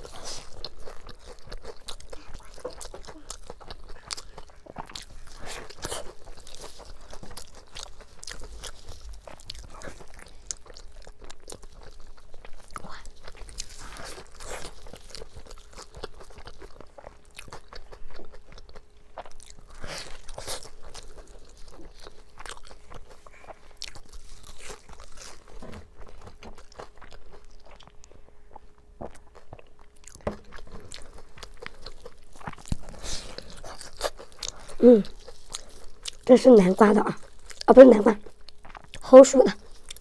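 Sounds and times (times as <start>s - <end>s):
crunching fried food: 0.0s - 40.0s.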